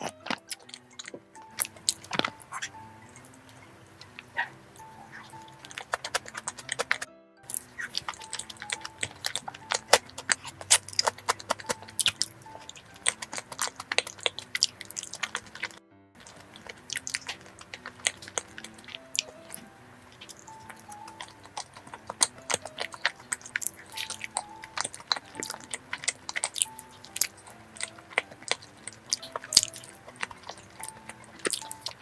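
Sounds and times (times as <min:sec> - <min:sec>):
chewing soft rice cakes: 0:00.0 - 0:32.0
quiet background music: 0:00.0 - 0:32.0
wet mouth clicks: 0:04.9 - 0:32.0.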